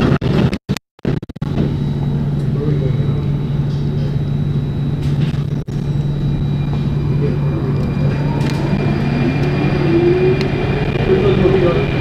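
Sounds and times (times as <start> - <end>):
train cabin hum and rumble: 0.0 - 12.0
train motor whine rising: 1.5 - 12.0.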